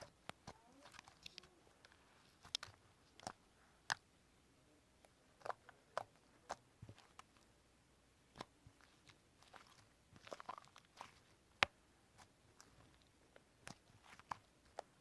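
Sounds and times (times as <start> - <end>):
faint sharp clicks and crunches: 0.0 - 4.0, 5.0 - 7.5, 8.3 - 15.0.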